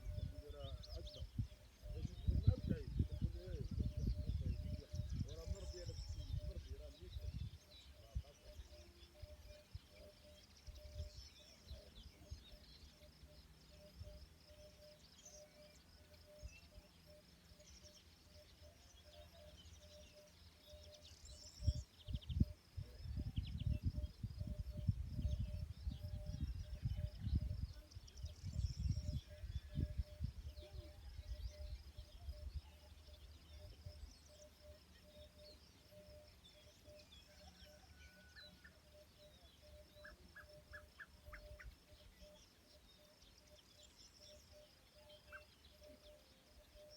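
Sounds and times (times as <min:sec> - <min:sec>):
birds chirping: 0:00.0 - 0:46.9
faint pulsing tone: 0:00.0 - 0:46.9.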